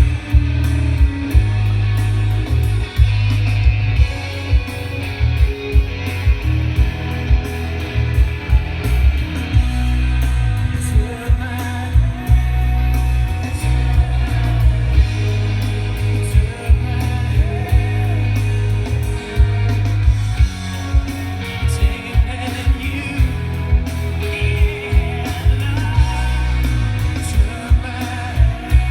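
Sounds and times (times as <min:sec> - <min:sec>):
pop-rock song with singing and guitar: 0:00.0 - 0:28.9.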